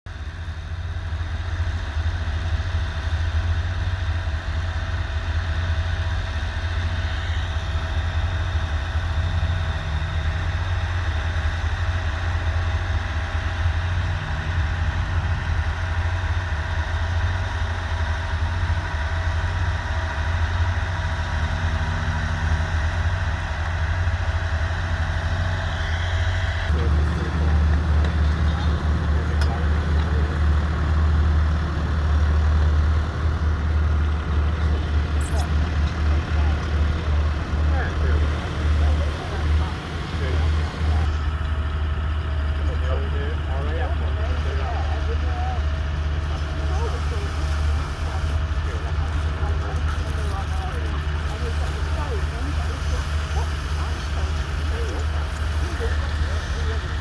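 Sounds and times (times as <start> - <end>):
tractor diesel engine running: 0.1 - 57.0.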